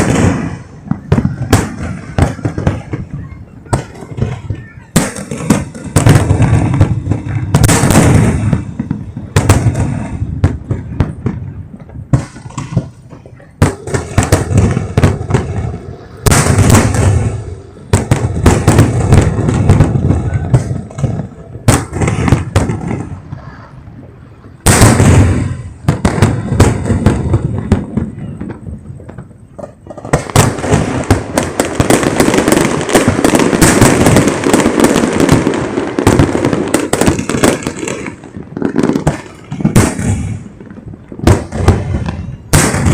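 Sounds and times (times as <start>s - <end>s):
fireworks booming: 0.0s - 42.9s
fireworks crackling: 0.0s - 42.9s.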